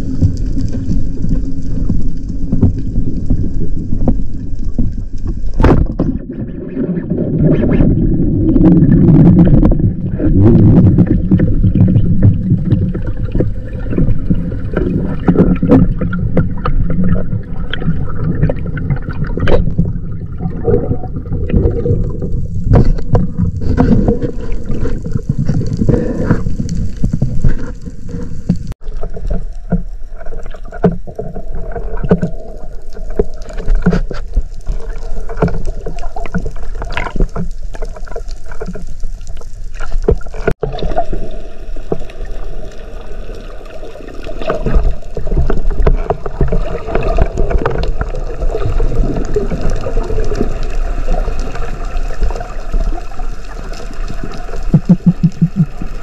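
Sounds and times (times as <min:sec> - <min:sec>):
underwater rush of moving water: 0:00.0 - 0:56.0.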